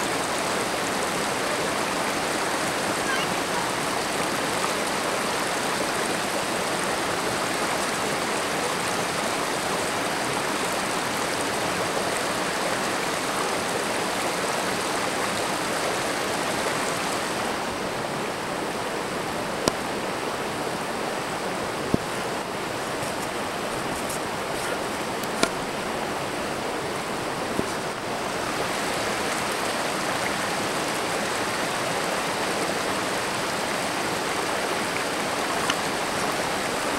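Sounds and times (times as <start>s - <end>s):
creek rushing over boulders: 0.0s - 36.9s.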